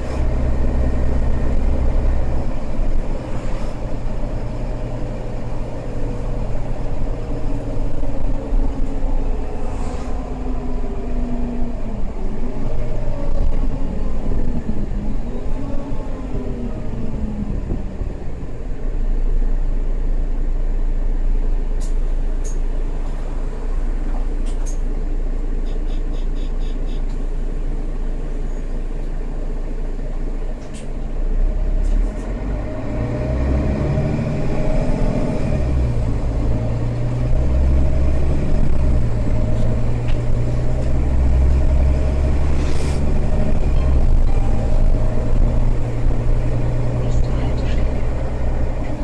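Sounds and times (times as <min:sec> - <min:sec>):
bus engine drone: 0:00.0 - 0:49.0.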